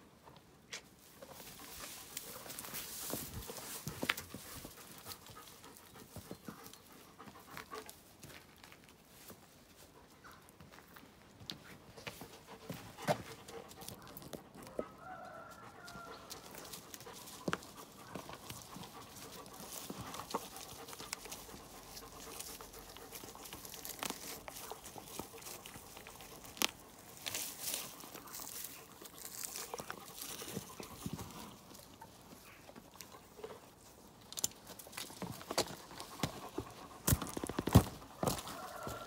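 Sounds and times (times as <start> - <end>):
straw rustling on cobbles: 0.7 - 39.0.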